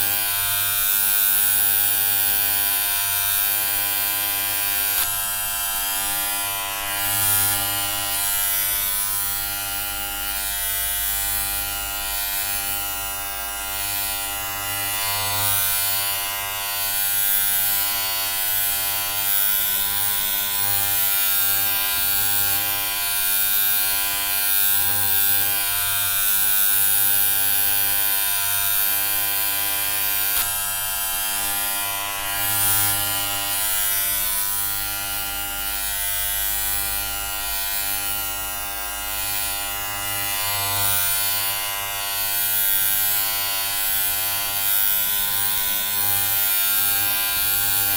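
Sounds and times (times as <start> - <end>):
electric hair clippers buzzing: 0.0 - 47.9.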